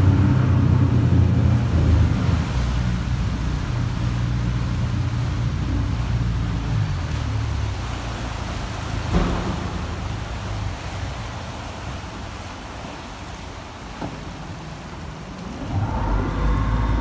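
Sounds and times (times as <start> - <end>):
propeller churning water: 0.0 - 17.0.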